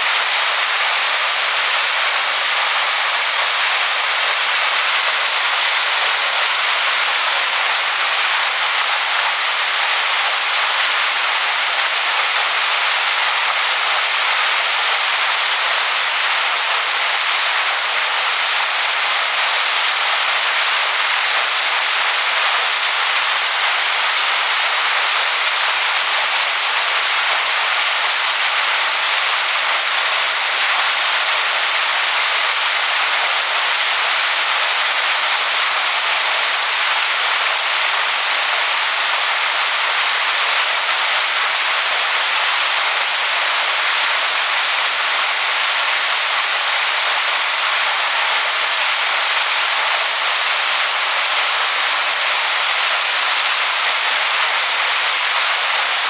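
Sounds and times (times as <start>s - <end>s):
waterfall rushing over stones: 0.0s - 56.0s.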